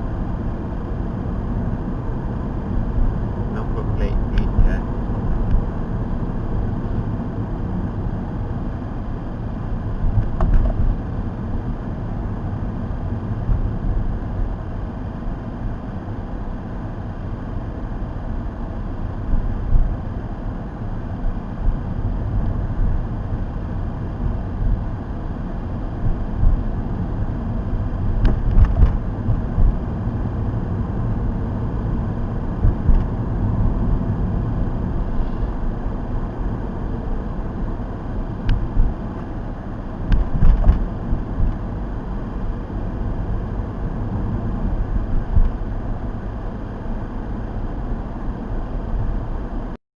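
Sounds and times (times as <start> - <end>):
car road and engine noise: 0.0 - 49.8.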